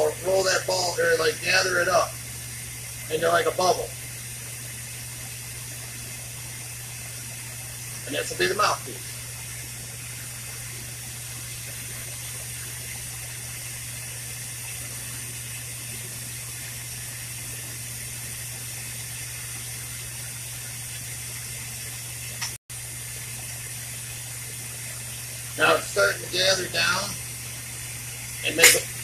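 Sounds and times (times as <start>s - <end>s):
constant low hum: 0.0s - 29.0s
torch hissing: 0.0s - 29.0s.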